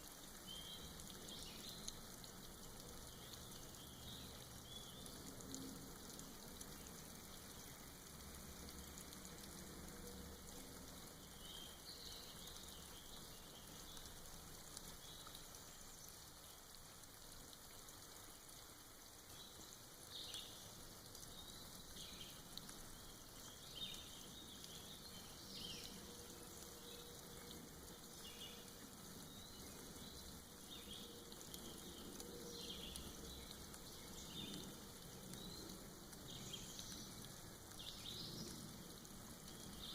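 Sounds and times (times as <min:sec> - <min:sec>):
rain dripping and pattering: 0:00.0 - 0:39.9.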